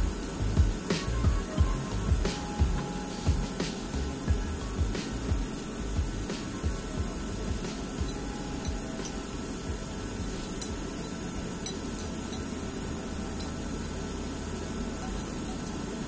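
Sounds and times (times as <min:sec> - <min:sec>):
pot simmering hiss and hum: 0:00.0 - 0:16.0.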